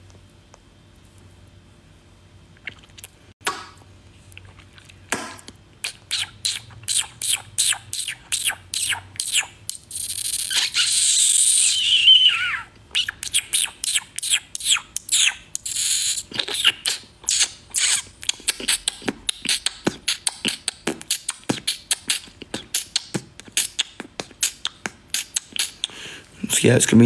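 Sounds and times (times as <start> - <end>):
beatbox lip pops and tongue clicks: 2.6 - 11.4, 13.0 - 26.0.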